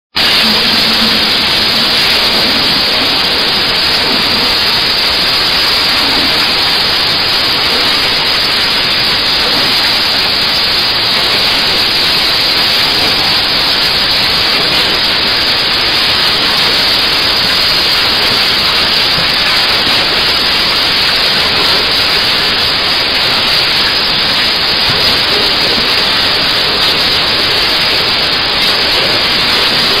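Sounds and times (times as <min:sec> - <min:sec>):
onion peeling machine hissing: 0:00.2 - 0:30.0.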